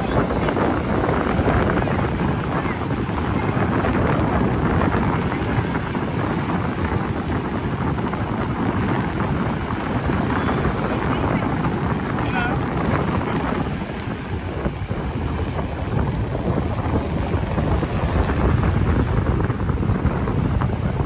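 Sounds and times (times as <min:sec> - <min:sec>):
waves breaking: 0:00.0 - 0:21.0
wind buffeting microphone: 0:00.0 - 0:21.0.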